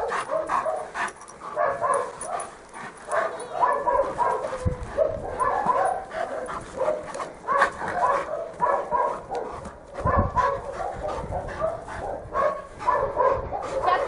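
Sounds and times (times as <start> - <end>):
dogs barking: 0.0 - 14.0.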